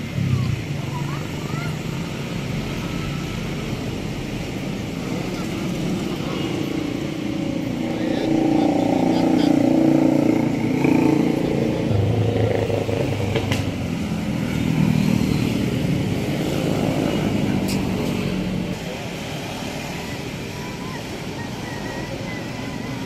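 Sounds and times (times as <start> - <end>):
cars passing: 0.0 - 23.0
motorcycles passing: 0.0 - 23.0.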